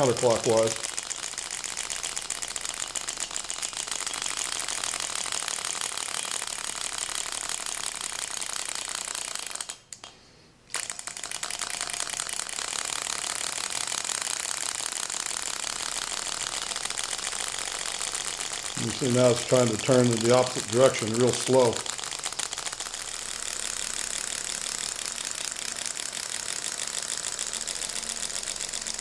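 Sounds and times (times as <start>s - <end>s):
stirling engine rapid clicking: 0.0s - 9.8s, 10.8s - 29.0s.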